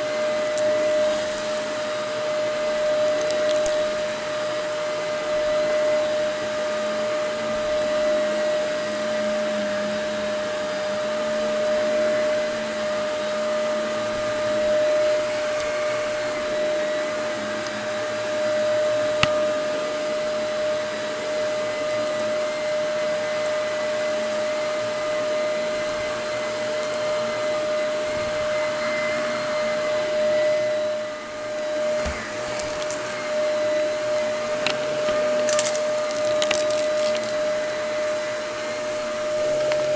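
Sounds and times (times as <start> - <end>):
vacuum cleaner running over carpet: 0.0 - 39.9.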